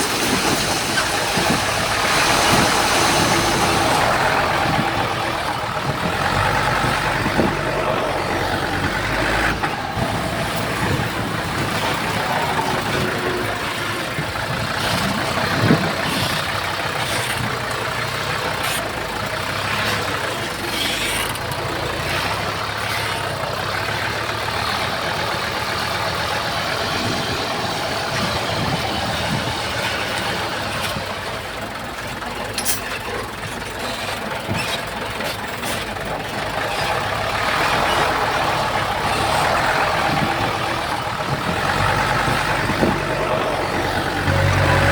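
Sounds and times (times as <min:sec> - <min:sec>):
heavy diesel engines running: 0:00.0 - 0:44.9.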